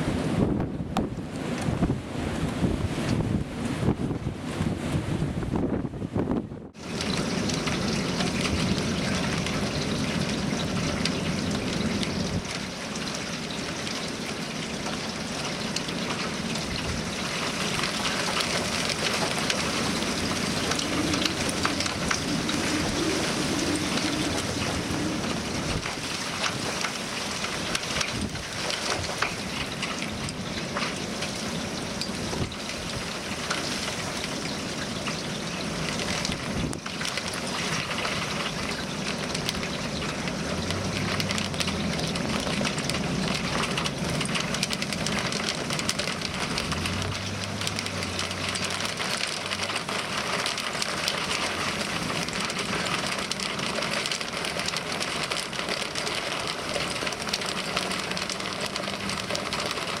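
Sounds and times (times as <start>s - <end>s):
rain and wind hiss: 0.0s - 60.0s.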